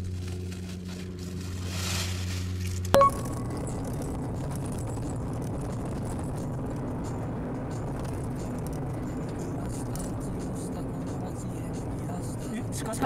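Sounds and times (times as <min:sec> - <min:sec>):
car engine and tyre rumble: 0:00.0 - 0:03.0, 0:03.6 - 0:13.0.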